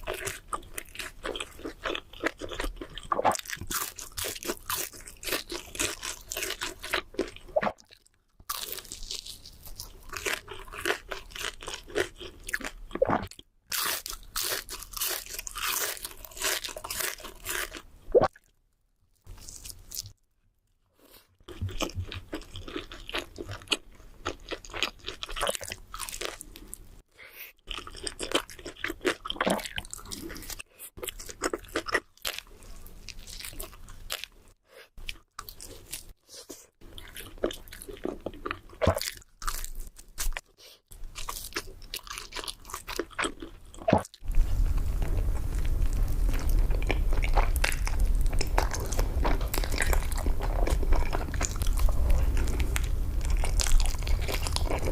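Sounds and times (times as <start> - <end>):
crunchy bites and wet chewing: 0.0 - 18.6, 21.1 - 26.9, 27.7 - 54.9.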